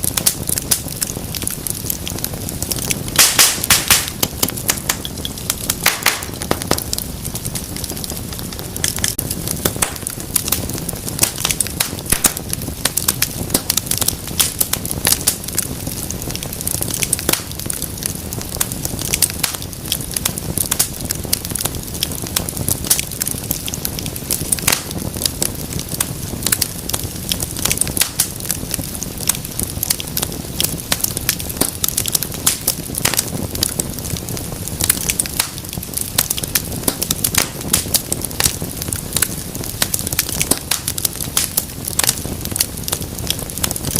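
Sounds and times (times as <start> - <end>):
wood fire crackling in fireplace: 0.0 - 43.9.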